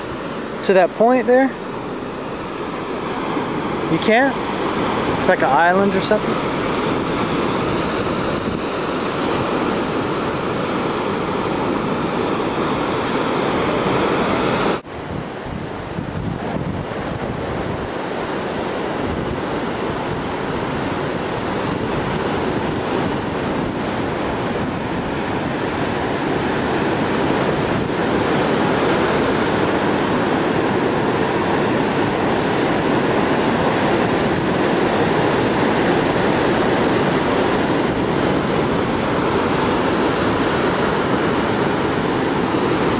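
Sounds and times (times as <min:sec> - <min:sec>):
surf breaking on rocky shore: 0:00.0 - 0:42.9
wind on microphone: 0:01.3 - 0:42.9.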